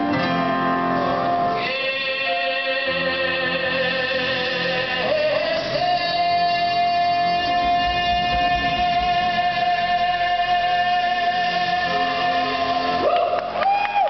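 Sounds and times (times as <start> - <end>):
live band playing: 0.0 - 13.6.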